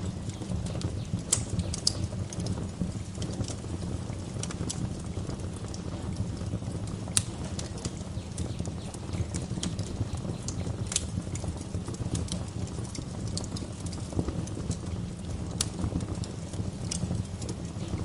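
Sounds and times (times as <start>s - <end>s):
low rumble of flames: 0.0s - 18.0s
wood fire popping and snapping: 0.0s - 18.0s.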